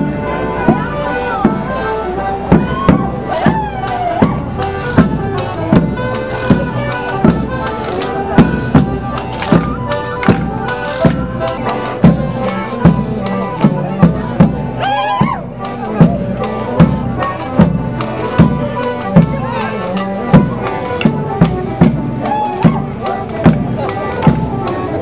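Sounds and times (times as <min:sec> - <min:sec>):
folk dance tune on melodeons: 0:00.0 - 0:25.0
drum beat: 0:02.5 - 0:25.0.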